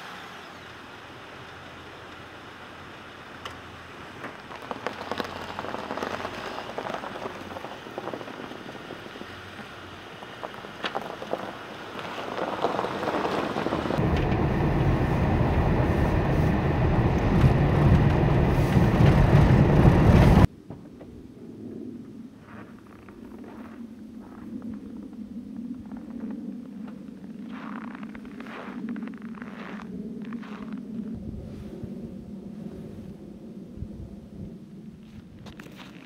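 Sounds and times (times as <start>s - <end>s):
crackles and clicks: 0.6s - 21.2s, 22.0s - 32.0s, 34.4s - 36.0s
tyre and wind rumble: 1.4s - 36.0s.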